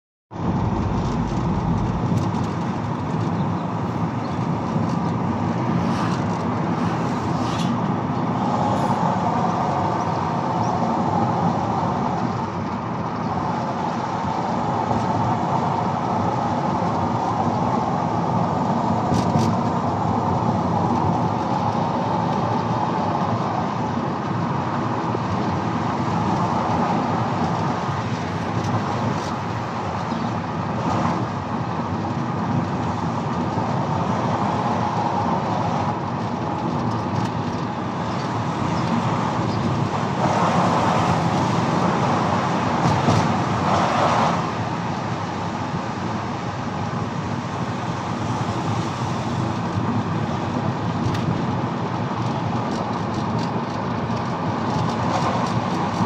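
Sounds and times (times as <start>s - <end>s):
road vehicle engine and tyres: 0.3s - 56.0s.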